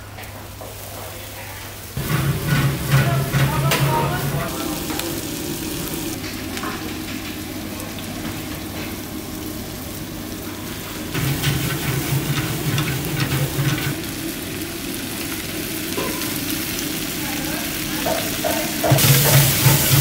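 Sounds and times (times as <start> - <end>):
food sizzling in a wok: 0.1 - 20.0.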